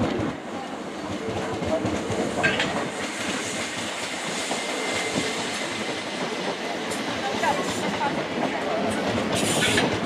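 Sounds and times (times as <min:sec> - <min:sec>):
train wheels clacking over rail joints: 0:01.0 - 0:10.0.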